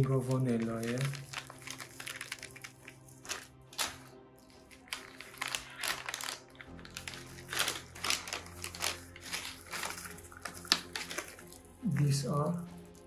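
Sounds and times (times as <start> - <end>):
plastic foil pouches crinkling: 0.0 - 12.2
soft background music: 0.0 - 13.0.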